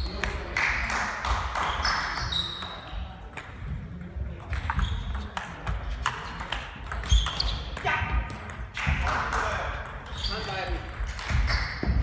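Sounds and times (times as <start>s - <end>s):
table tennis balls clicking: 1.6s - 12.0s.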